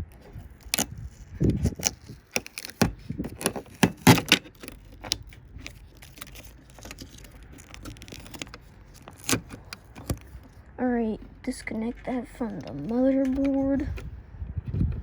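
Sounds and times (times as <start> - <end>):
tape pulling clicks and rustles: 0.0 - 10.7, 11.4 - 15.0.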